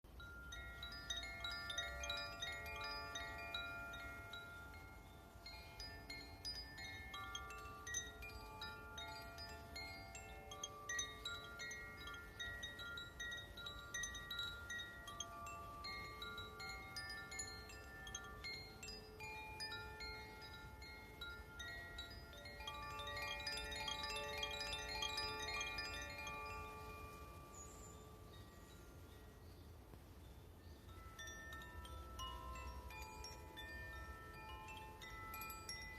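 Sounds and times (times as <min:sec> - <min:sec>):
wind chimes ringing: 0:00.1 - 0:35.9.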